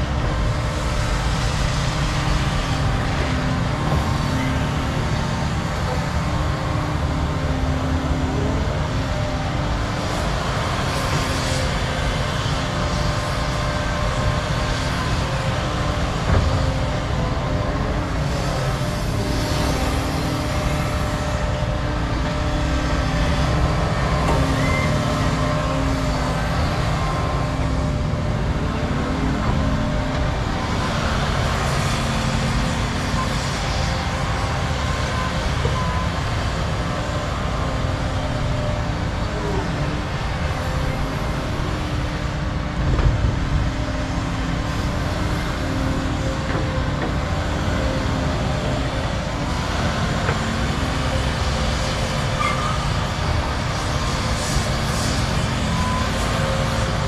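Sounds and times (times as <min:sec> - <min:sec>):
excavator diesel engines droning: 0:00.0 - 0:57.0.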